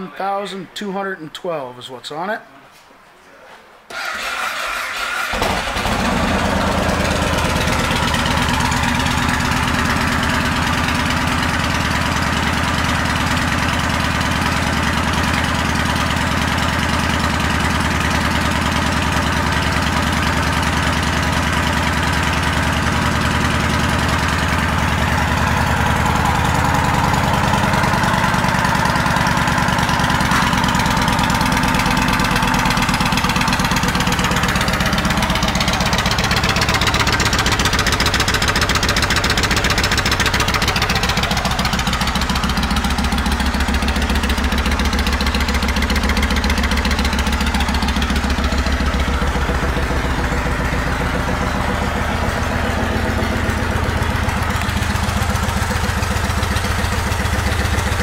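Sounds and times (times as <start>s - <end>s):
motorcycle engine idling: 5.2s - 58.0s.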